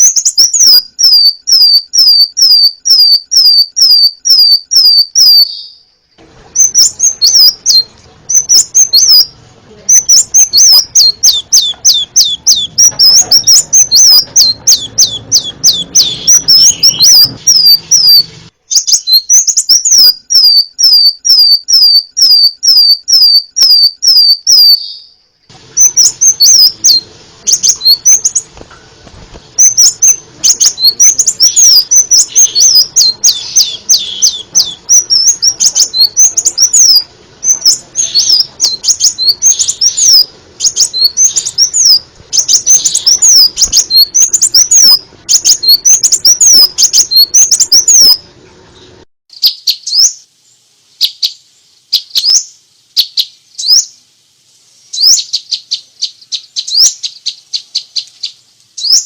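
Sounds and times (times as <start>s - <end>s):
bird chirping high-pitched: 0.0s - 28.6s, 29.5s - 50.3s, 51.0s - 54.1s, 54.9s - 59.0s.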